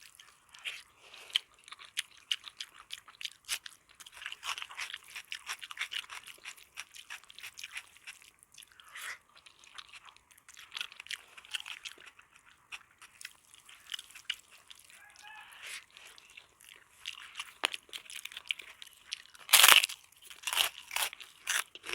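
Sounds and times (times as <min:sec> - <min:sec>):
chewing crisp food: 0:00.0 - 0:21.9.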